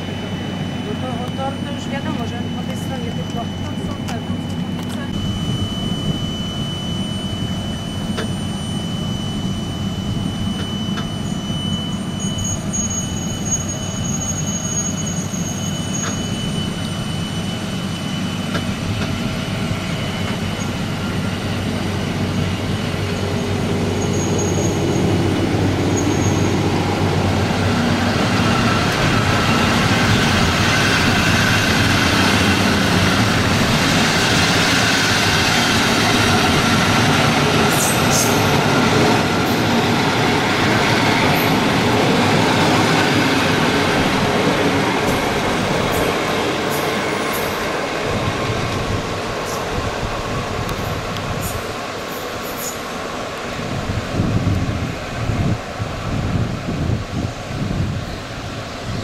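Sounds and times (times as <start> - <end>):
high train squeals: 0.0 - 59.0
train rumbling on tracks: 0.0 - 59.0.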